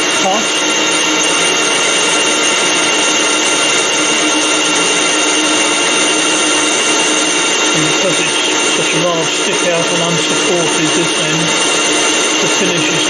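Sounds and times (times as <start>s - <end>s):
metal lathe cutting: 0.0s - 13.0s.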